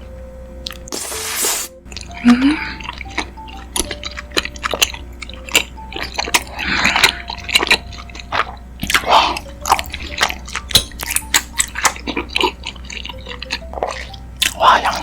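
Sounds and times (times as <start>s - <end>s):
chewing rice cakes: 0.6s - 15.0s.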